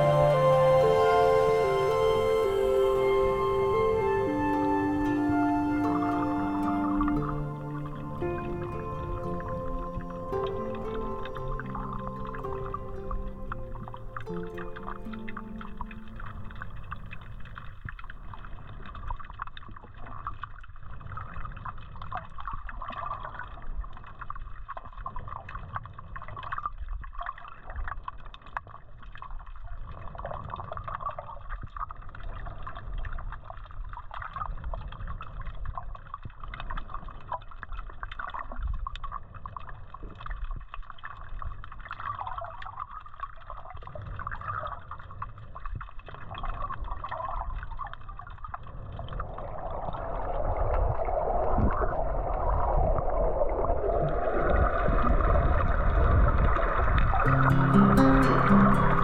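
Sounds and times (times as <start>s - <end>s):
underwater moving water: 0.0s - 59.0s.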